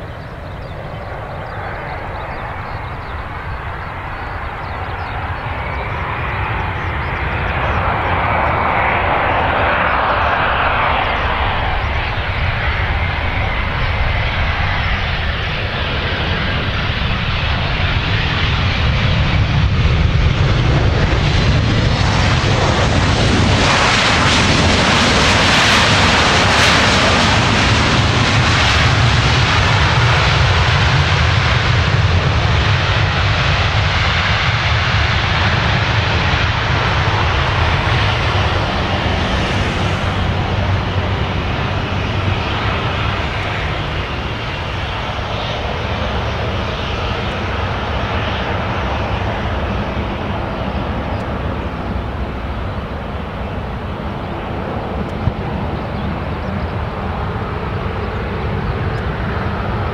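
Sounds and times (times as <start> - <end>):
jet airliner rushing past: 0.0 - 59.9.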